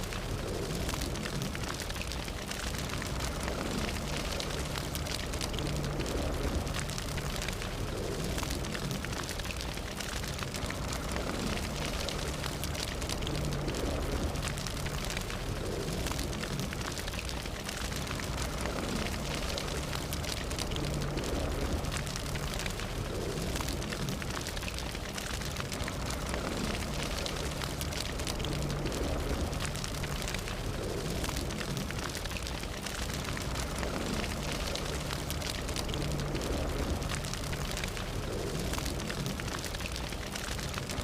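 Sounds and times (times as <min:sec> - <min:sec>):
fire crackling and hissing: 0:00.0 - 0:41.0
low rumble: 0:00.0 - 0:41.0.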